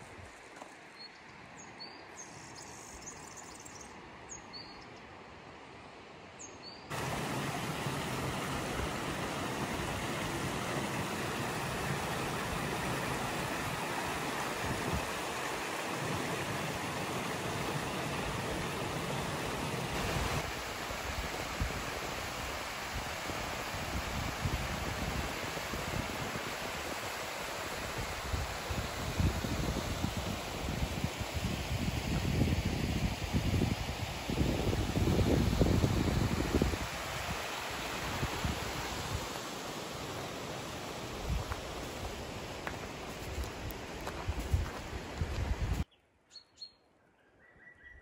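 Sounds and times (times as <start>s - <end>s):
stream rushing over rocks: 6.9s - 45.8s.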